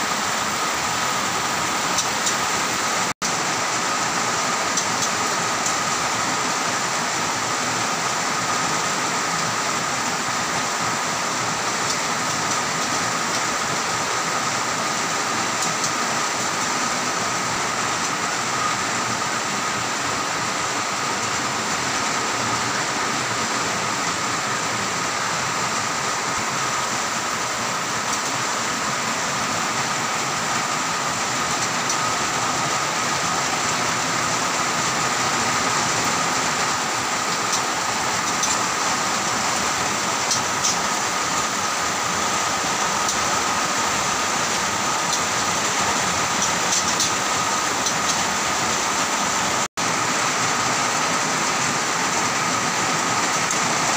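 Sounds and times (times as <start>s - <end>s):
heavy rain hissing: 0.0s - 53.9s.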